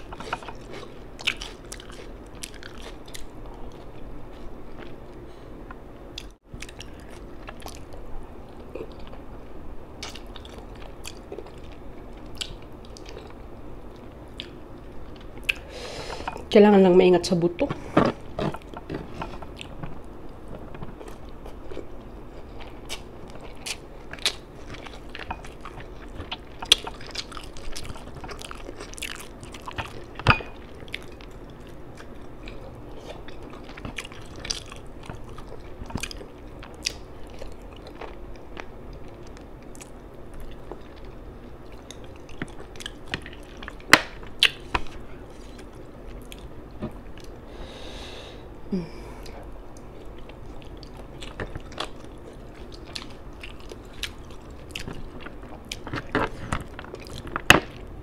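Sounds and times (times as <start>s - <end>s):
person chewing wetly: 0.0s - 5.2s, 6.2s - 9.2s, 10.0s - 16.4s, 17.8s - 47.4s, 49.2s - 57.8s.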